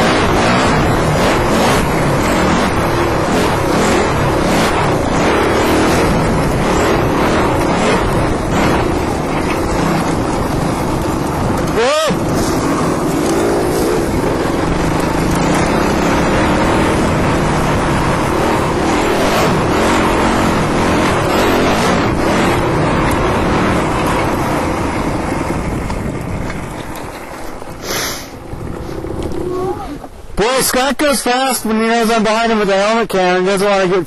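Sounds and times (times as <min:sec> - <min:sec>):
dirt bike engine running: 0:00.0 - 0:30.2.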